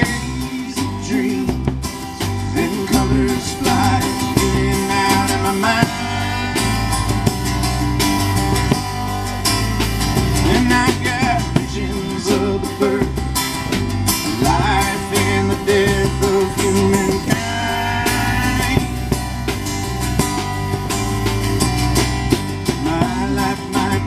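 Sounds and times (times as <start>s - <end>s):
country-rock band playing: 0.0s - 24.0s.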